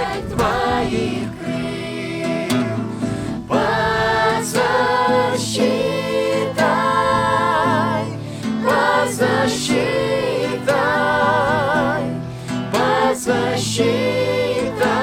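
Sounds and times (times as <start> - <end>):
person singing worship song: 0.0 - 15.0.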